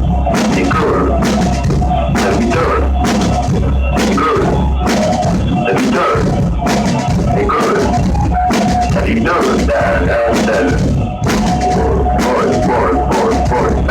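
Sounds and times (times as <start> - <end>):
rock music with drum kit: 0.0 - 13.9.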